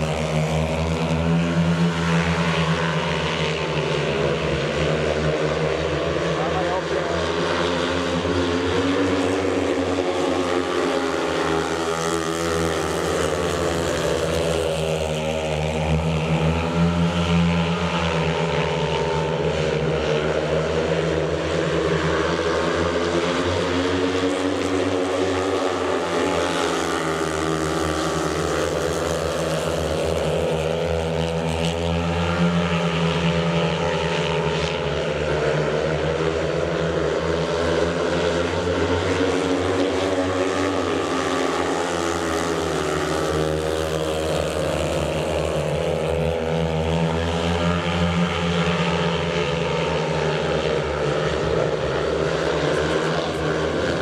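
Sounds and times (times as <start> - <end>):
motorcycle engines racing: 0.0 - 54.0.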